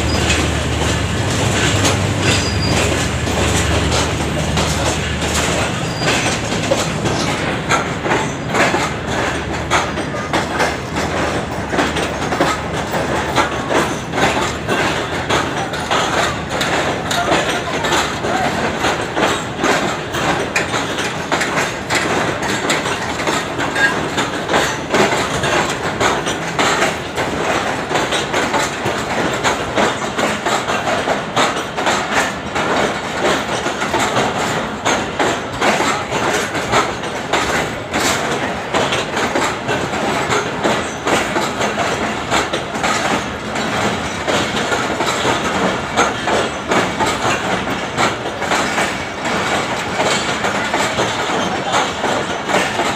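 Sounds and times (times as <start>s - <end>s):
train coaches rumbling: 0.0s - 52.9s
wheels clicking over rail joints: 0.0s - 52.9s.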